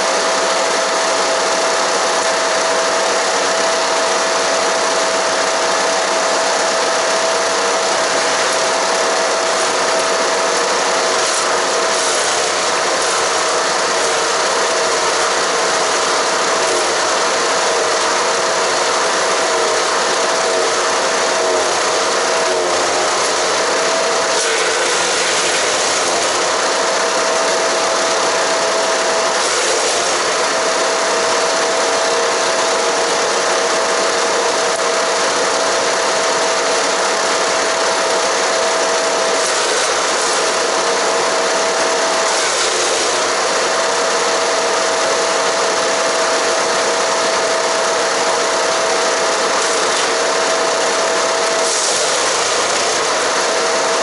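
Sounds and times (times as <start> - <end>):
wood chipper engine running: 0.0 - 54.0
wood shredding: 0.0 - 54.0.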